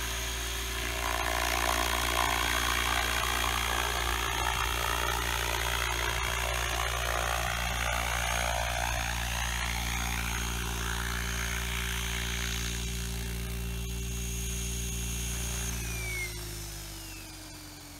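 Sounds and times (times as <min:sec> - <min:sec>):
helicopter rotor whine: 0:00.0 - 0:17.9.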